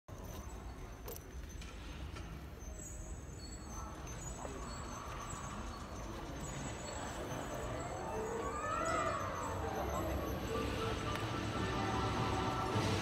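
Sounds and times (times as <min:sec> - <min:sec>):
indoor hall hum: 0:00.1 - 0:13.0
faint distant voices: 0:02.4 - 0:13.0.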